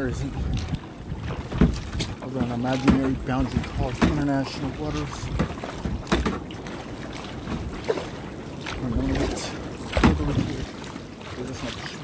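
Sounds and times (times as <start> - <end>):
water sloshing around kayak: 0.0 - 12.0
wind rumbling on microphone: 0.0 - 12.0
sharper splashes: 1.5 - 12.0.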